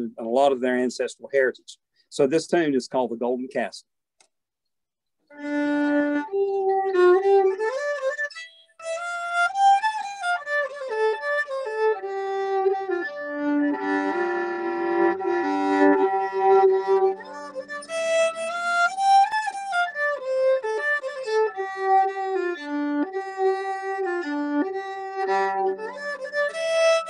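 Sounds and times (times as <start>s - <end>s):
solo fiddle playing slow air: 5.3s - 27.0s.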